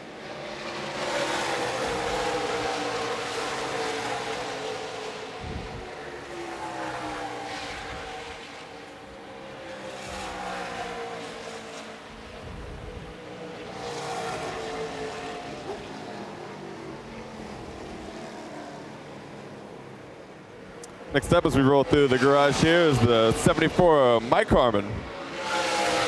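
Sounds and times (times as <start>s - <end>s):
race truck engines passing: 0.0s - 26.0s.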